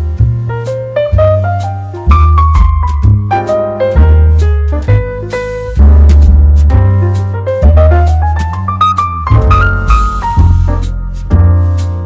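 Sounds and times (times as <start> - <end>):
jazzy piano music: 0.0 - 12.0.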